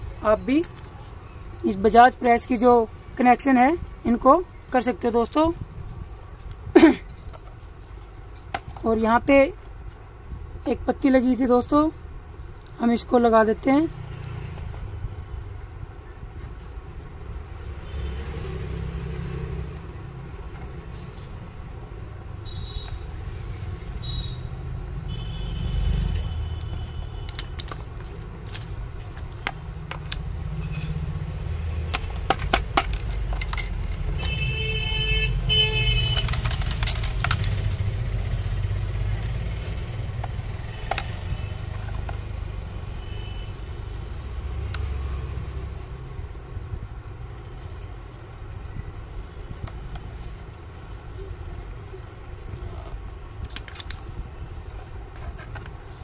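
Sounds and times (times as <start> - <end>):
low rumble of road traffic: 0.0 - 56.0.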